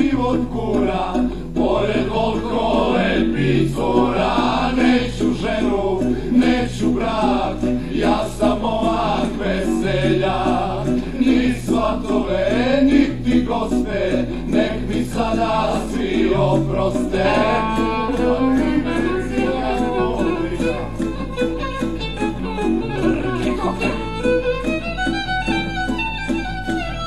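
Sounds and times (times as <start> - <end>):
bass line: 0.0 - 24.5
wavering lead melody: 0.0 - 27.0.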